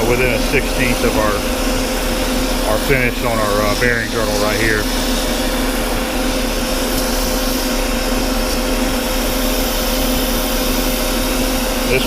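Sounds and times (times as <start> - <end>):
metal lathe cutting steel: 0.0 - 12.0.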